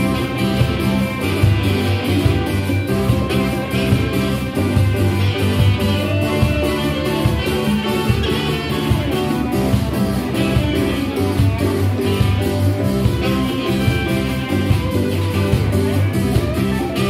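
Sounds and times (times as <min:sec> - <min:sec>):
bass: 0:00.0 - 0:17.0
congas: 0:00.0 - 0:17.0
drum kit: 0:00.0 - 0:17.0
electric guitar: 0:00.0 - 0:17.0.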